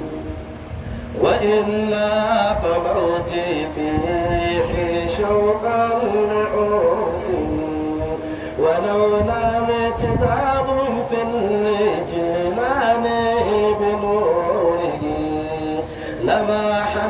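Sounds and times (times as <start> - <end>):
man singing into a microphone: 0.9 - 17.0.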